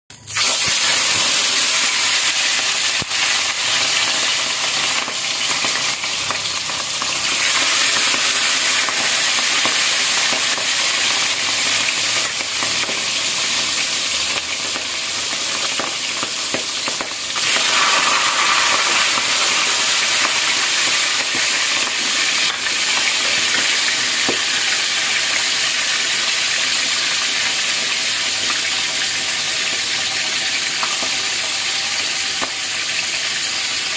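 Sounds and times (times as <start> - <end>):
fish sizzling in hot oil: 0.1 - 33.9.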